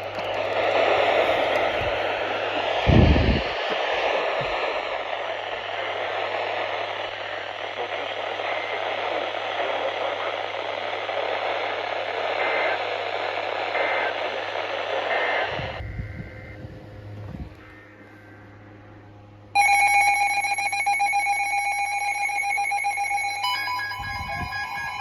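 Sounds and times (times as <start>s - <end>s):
radio static hiss: 0.0s - 18.6s, 22.1s - 25.0s
low hum: 0.0s - 25.0s.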